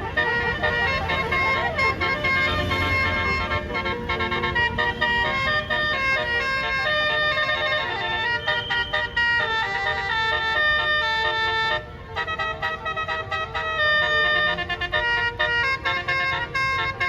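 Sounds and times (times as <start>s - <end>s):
bus multi-tone horns playing tune: 0.0s - 17.0s.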